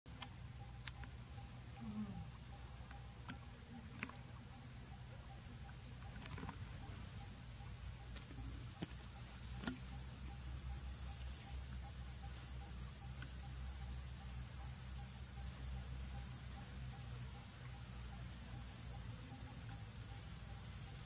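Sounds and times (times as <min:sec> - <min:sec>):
low steady rumble: 0:00.1 - 0:21.0.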